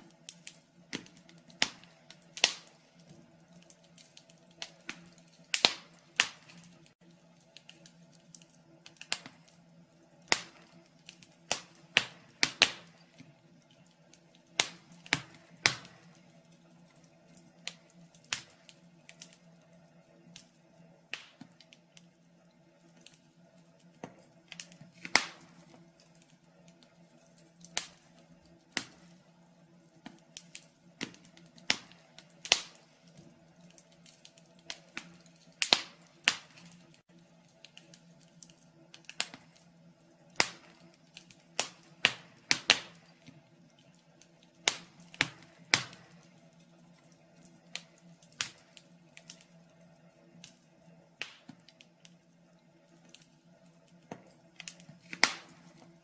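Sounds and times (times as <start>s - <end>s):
steady low hum: 0.0s - 56.0s
wood fire crackling and popping: 0.0s - 56.0s.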